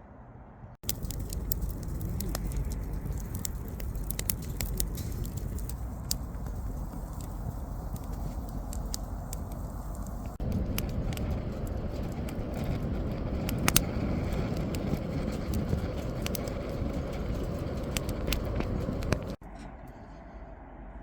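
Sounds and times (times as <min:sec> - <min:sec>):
steady low rush: 0:00.2 - 0:21.0
fire popping and snapping: 0:00.8 - 0:19.4
wood fire crackling: 0:00.8 - 0:19.4.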